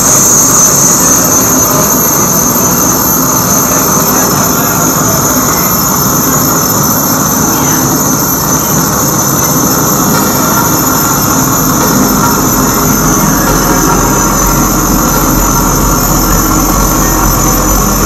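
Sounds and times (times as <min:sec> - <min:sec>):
electronic noise drone: 0:00.0 - 0:18.0.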